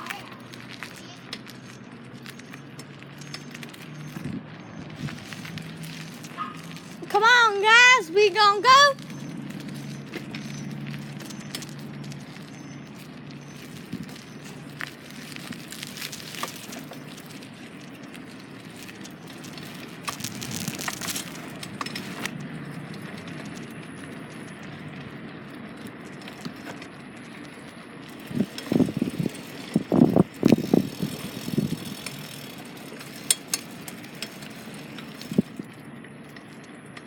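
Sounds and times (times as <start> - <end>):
bicycle clicks and rattles: 0.0 - 37.0
wind and tyres rumbling: 0.0 - 37.0.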